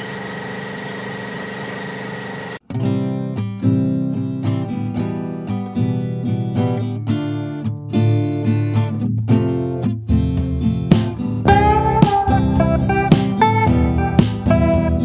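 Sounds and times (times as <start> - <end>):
acoustic guitar picking and strumming: 2.6 - 15.0.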